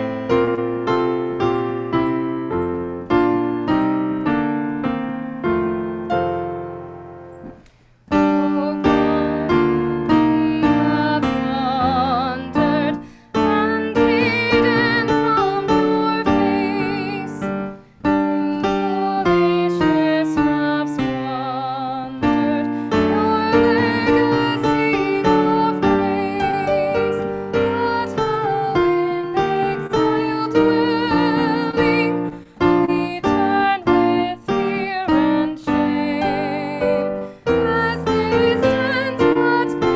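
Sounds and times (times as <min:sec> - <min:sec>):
slow piano piece: 0:00.0 - 0:39.9.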